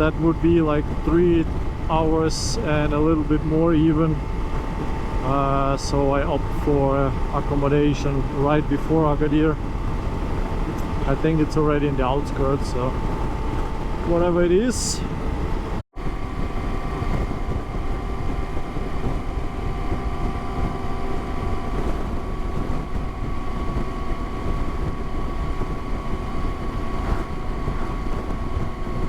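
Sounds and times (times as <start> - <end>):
motorcycle engine cruising: 0.0 - 29.0
wind rush on microphone: 0.0 - 29.0.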